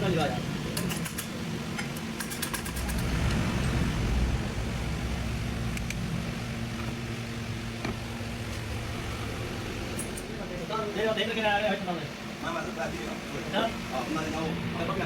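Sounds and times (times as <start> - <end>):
motor hum: 0.4 - 15.0.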